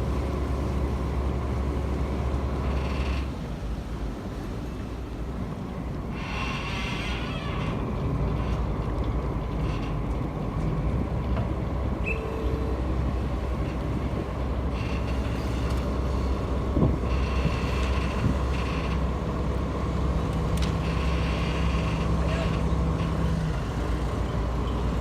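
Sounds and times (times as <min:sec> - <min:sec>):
diesel engine deep hum: 0:00.0 - 0:25.0.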